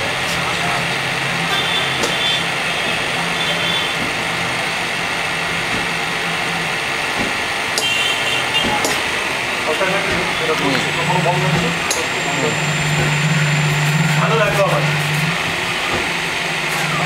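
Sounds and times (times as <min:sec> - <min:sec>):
electric pump motor humming: 0:02.0 - 0:17.0.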